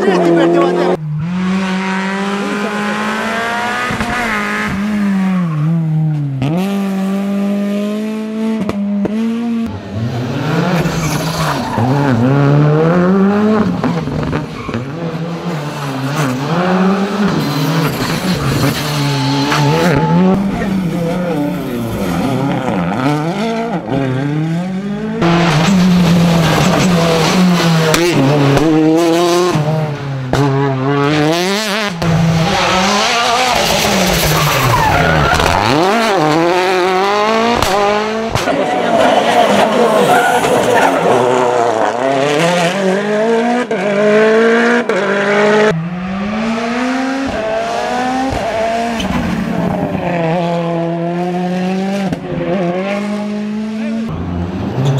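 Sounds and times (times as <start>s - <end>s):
rally car engines revving: 0.0s - 54.9s.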